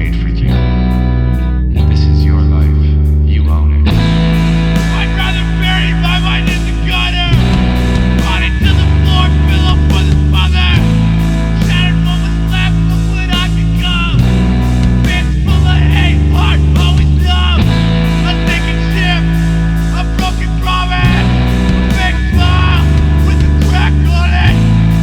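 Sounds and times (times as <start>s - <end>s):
heavy bass line: 0.0s - 25.0s
rock song: 0.0s - 25.0s.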